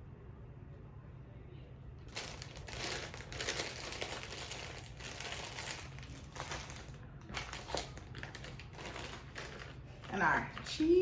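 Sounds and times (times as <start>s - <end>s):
plastic packaging crinkling: 2.0s - 11.0s.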